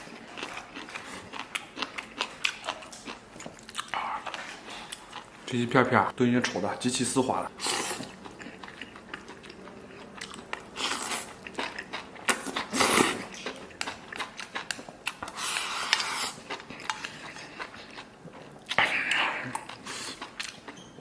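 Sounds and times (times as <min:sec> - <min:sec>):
person chewing food: 0:00.0 - 0:05.5, 0:07.5 - 0:21.0.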